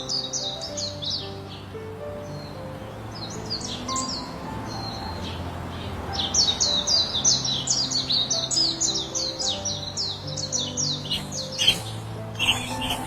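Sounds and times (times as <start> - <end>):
soft background music: 0.0 - 13.0
songbird chirping: 0.0 - 13.0.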